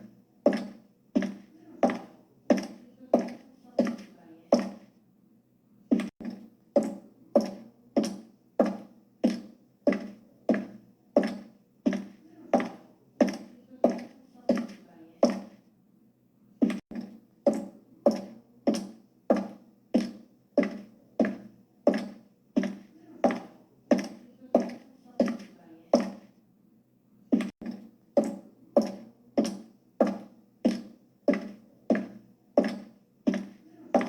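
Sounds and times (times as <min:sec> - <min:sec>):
high heels clicking on hard floor: 0:00.5 - 0:04.9, 0:05.9 - 0:15.6, 0:16.6 - 0:26.3, 0:27.3 - 0:34.0.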